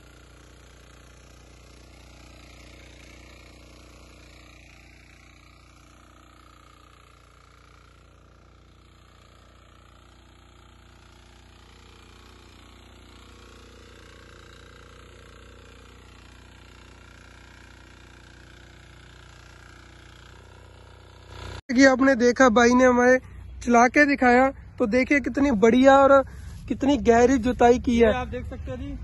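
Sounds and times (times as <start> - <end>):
diesel tiller engine running: 0.0 - 29.0.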